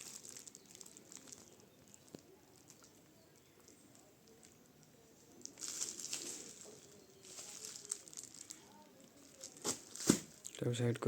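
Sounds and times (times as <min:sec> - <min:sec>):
packaging rustling and crinkling: 0:00.0 - 0:04.6, 0:05.3 - 0:10.5.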